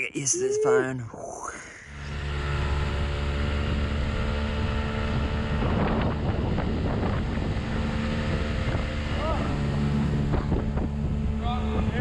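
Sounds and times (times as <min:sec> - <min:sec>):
outboard motor running: 0:01.9 - 0:12.0.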